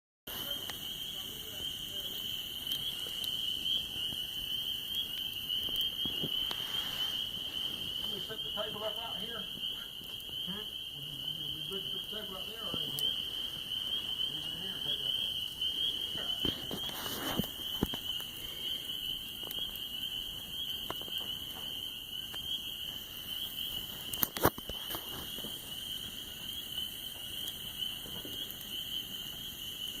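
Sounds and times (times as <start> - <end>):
campfire pops and crackles: 0.3 - 30.0
high-pitched insect chorus: 0.3 - 30.0.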